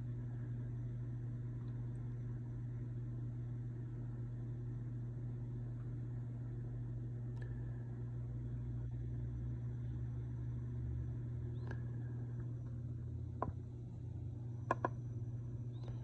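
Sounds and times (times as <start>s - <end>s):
aquarium pump humming: 0.0s - 16.0s.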